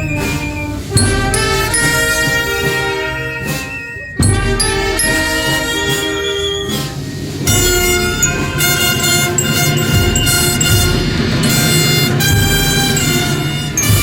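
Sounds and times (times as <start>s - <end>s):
brass band playing a march: 0.0s - 14.0s.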